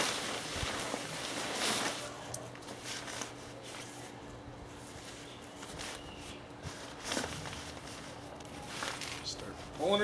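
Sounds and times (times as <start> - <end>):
fabric cover rustling: 0.0 - 10.0.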